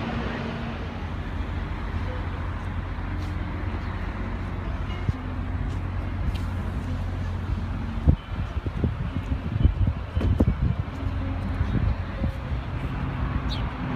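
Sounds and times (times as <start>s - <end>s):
city street traffic rumble: 0.0s - 13.9s.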